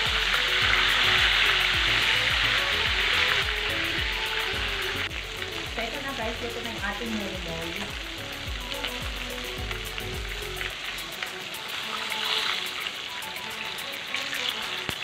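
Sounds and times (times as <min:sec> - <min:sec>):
background music with steady beat: 0:00.0 - 0:15.0
fish sizzling in hot oil: 0:00.0 - 0:15.0.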